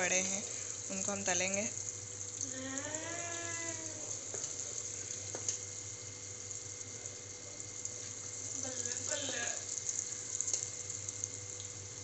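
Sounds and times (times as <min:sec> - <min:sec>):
batter deep-frying in oil: 0:00.0 - 0:12.0.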